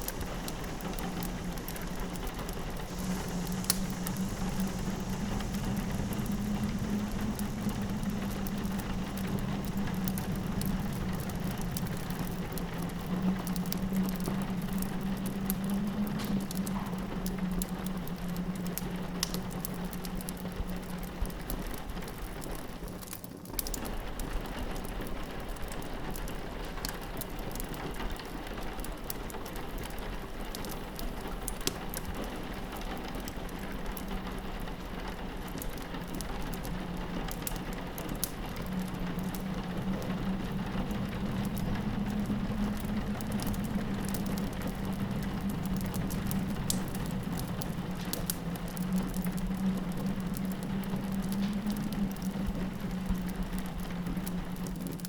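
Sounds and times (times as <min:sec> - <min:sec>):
low steady drone: 0:00.0 - 0:22.4, 0:30.4 - 0:55.0
fireplace crackling: 0:00.0 - 0:55.0
rain pattering on a window: 0:00.0 - 0:55.0.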